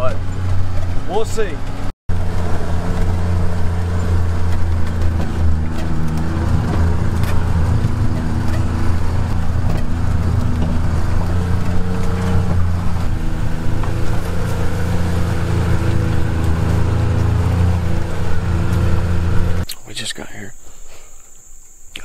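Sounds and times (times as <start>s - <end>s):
vehicle engine driving on dirt: 0.0s - 19.7s.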